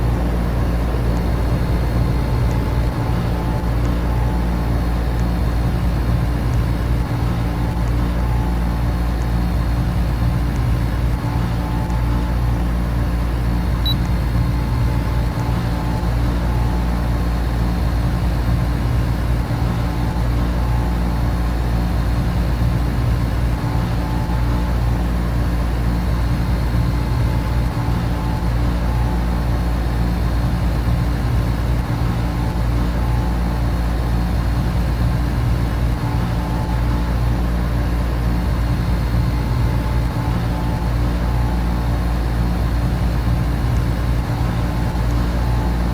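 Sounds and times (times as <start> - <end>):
air conditioner and fans humming: 0.0 - 45.9.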